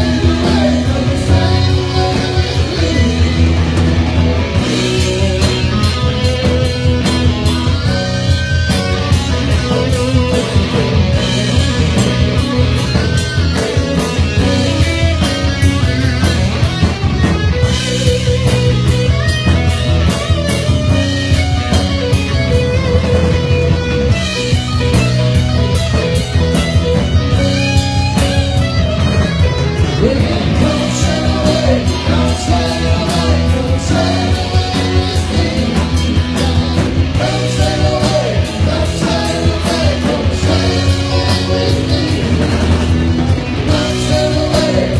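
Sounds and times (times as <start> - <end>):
bass: 0.0 - 44.9
electric guitar: 0.0 - 44.9
steady drum beat: 0.0 - 44.9.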